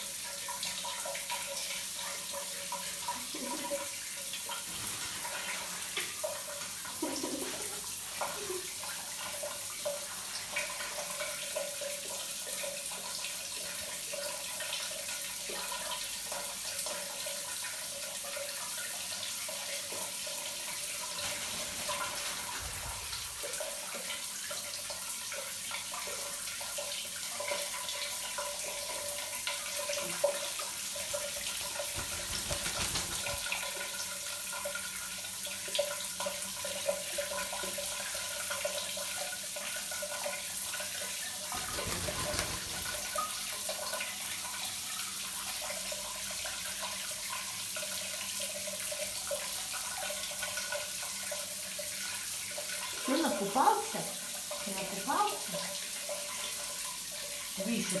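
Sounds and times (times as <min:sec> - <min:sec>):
water running: 0:00.0 - 0:58.0.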